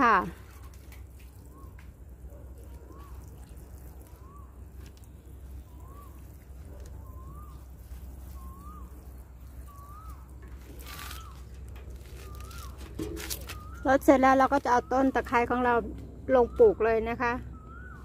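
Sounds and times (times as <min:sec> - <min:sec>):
water sprinkling onto soil: 0:00.0 - 0:14.6
bird calling: 0:01.4 - 0:18.0.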